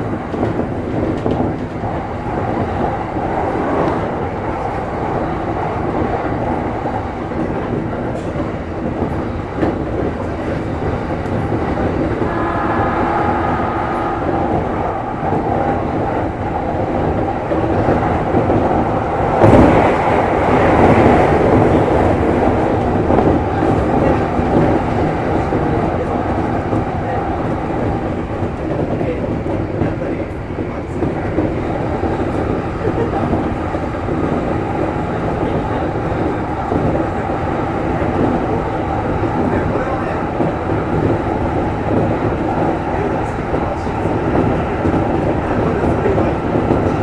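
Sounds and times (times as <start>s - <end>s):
train wheels rumbling on rail: 0.0s - 47.0s
whine of steady tones: 0.0s - 47.0s.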